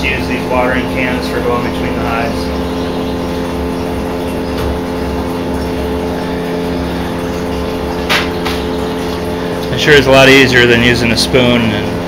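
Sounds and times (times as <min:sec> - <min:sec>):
sump pump humming: 0:00.0 - 0:12.0.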